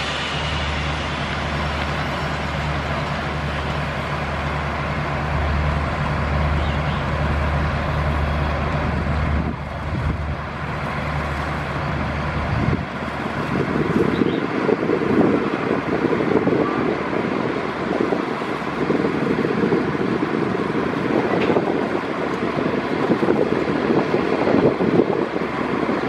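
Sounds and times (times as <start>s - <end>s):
diesel engine droning: 0.0s - 26.0s
rumbling noise: 0.0s - 26.0s.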